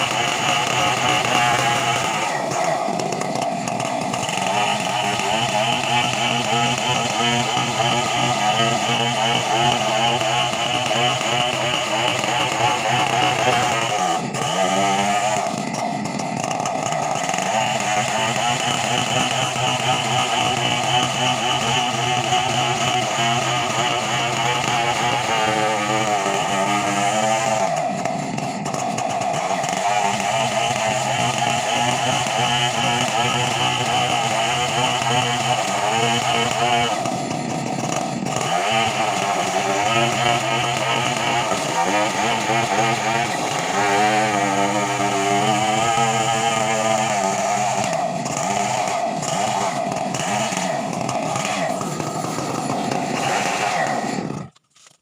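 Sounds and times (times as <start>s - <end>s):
chainsaw engine at high revs: 0.0s - 55.0s.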